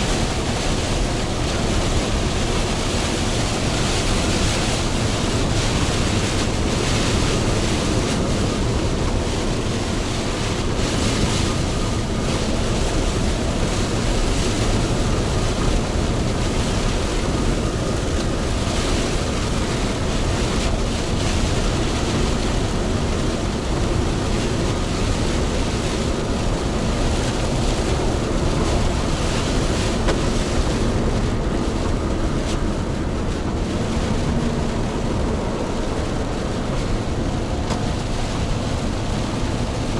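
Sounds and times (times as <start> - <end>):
heavy truck rumble: 0.0 - 39.9
tyres on wet road: 0.0 - 39.9.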